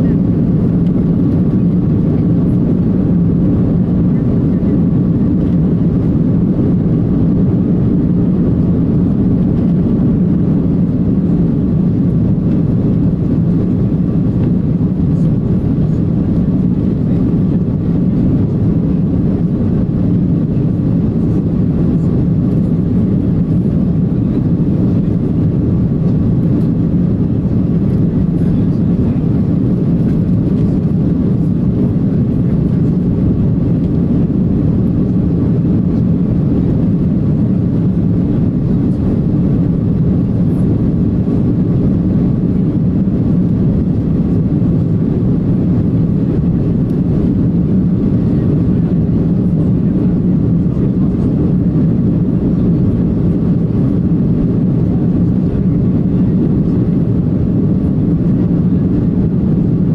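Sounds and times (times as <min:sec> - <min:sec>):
airliner cabin engine rumble: 0:00.0 - 0:59.9
faint steady whine: 0:00.0 - 0:59.9.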